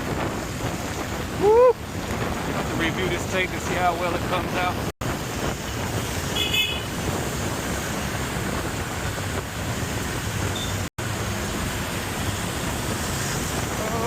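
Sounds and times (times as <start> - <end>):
city traffic: 0.0 - 14.0
heavy rain: 0.0 - 14.0
wind on microphone: 0.0 - 14.0.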